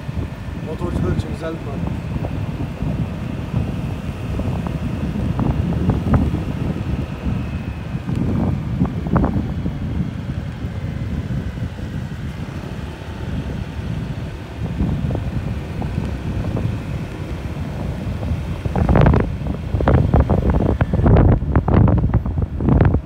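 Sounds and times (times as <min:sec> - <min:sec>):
low vehicle rumble: 0:00.0 - 0:23.0
wind buffeting microphone: 0:00.0 - 0:23.0.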